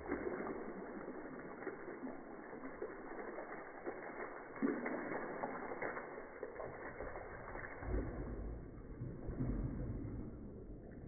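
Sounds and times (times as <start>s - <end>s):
water splashing on concrete floor: 0.0s - 11.0s.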